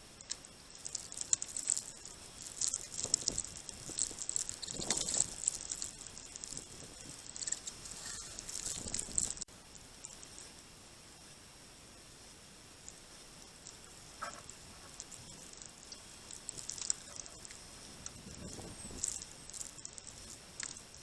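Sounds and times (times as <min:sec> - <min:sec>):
birds pecking at seed: 0:00.0 - 0:10.6, 0:12.8 - 0:21.0.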